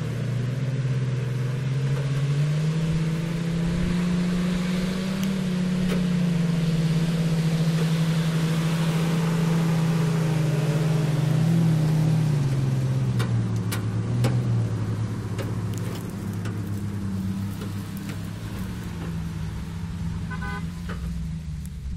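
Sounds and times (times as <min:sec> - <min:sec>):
engine running under load: 0:00.0 - 0:21.9.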